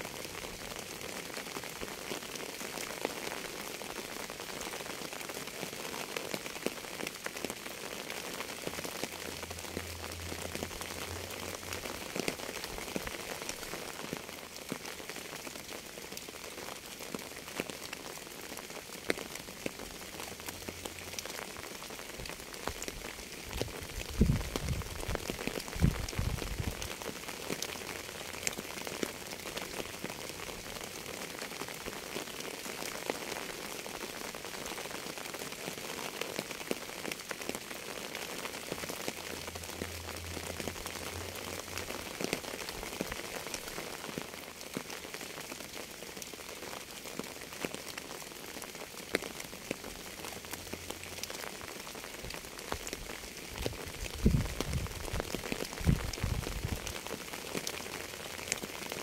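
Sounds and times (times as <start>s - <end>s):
steady rain with drops ticking: 0.0s - 59.0s.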